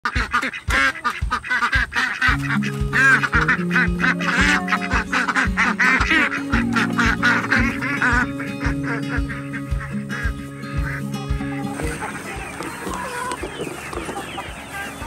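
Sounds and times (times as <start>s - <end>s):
background music with steady beat: 0.0s - 15.0s
ducks quacking: 0.0s - 15.0s.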